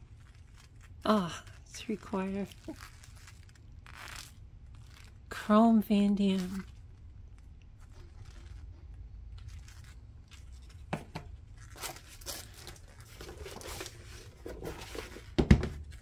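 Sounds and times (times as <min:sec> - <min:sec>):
packaging rustling: 0:00.0 - 0:05.3, 0:06.3 - 0:16.0.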